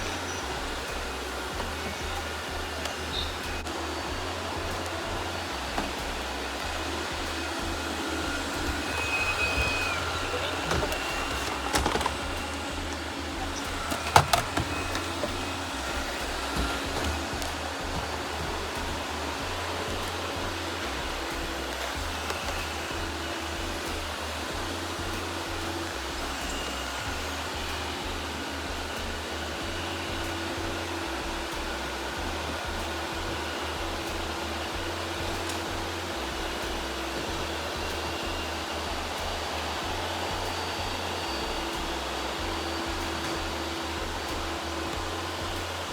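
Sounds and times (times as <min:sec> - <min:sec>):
robot vacuum whirring: 0:00.0 - 0:45.9.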